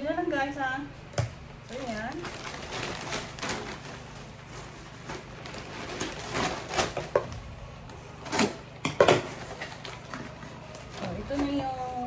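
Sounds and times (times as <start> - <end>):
packaging rustling and knocking: 1.2 - 7.5, 8.2 - 11.8.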